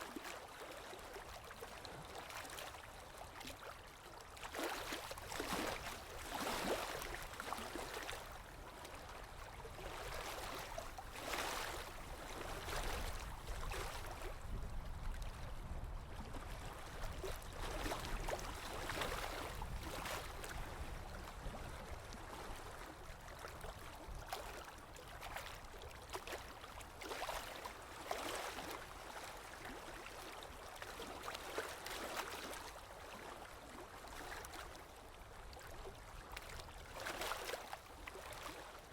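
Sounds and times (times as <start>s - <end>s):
small waves lapping: 0.0s - 38.9s.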